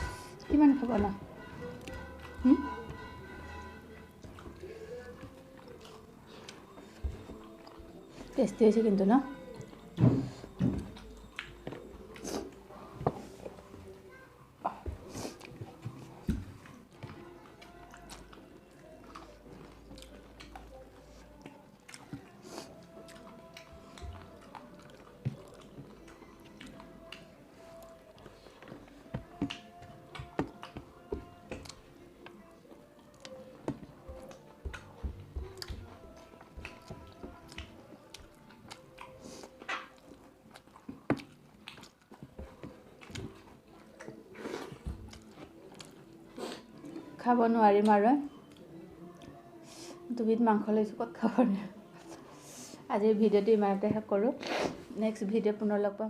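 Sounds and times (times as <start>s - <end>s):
people chewing food: 0.0s - 50.2s, 51.2s - 52.9s.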